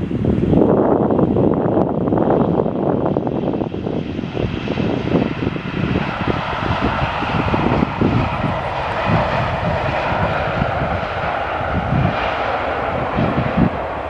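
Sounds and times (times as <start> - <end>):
jet engines roaring: 0.0 - 14.0
wind rumbling on microphone: 0.0 - 14.0.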